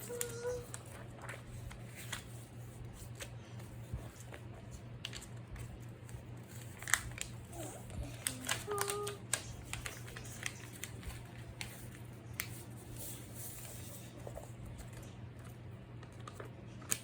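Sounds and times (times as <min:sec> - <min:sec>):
low steady hum: 0:00.0 - 0:17.0
paper clicks taps and rustles: 0:03.0 - 0:17.0.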